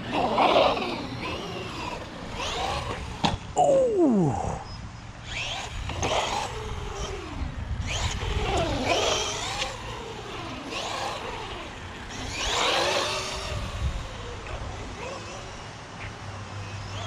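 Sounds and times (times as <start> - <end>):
rc car electric motor whine: 0.0 - 3.5, 4.7 - 17.0.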